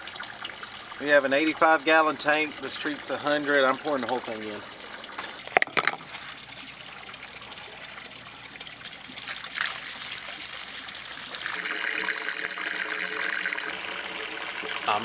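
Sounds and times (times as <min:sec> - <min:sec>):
hose water running into tank: 0:00.0 - 0:15.0
liquid pouring through a funnel: 0:00.0 - 0:15.0.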